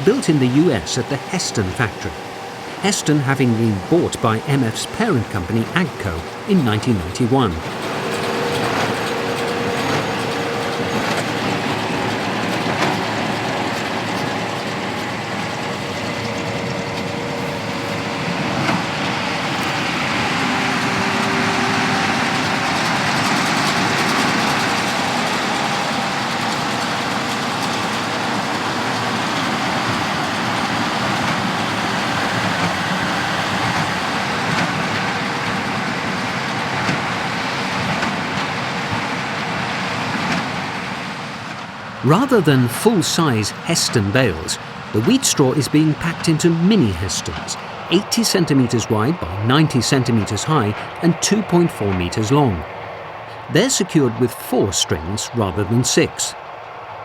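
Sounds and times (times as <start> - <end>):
tractor engine running: 0.0 - 39.4, 42.0 - 56.5.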